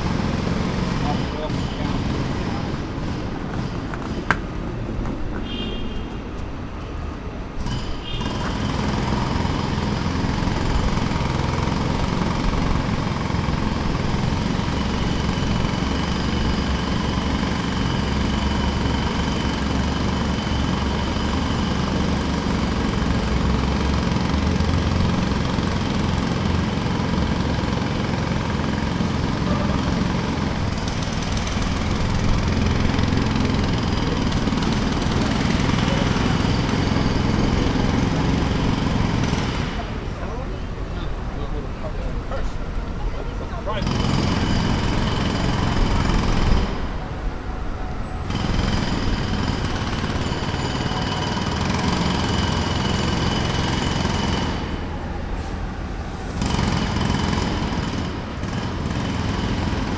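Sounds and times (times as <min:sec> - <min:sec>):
construction machinery engine drone: 0:00.0 - 0:59.9
machinery rattle: 0:07.5 - 0:43.0, 0:43.7 - 0:59.9.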